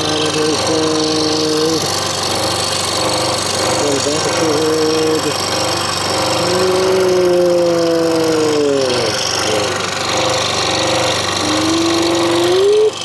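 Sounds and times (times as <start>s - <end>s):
scroll saw cutting wood: 0.0s - 13.0s.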